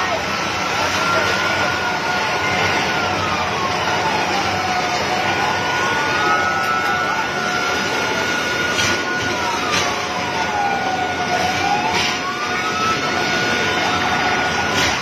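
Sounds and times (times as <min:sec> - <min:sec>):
emergency siren wailing: 0:00.0 - 0:15.0
rushing street noise: 0:00.0 - 0:15.0.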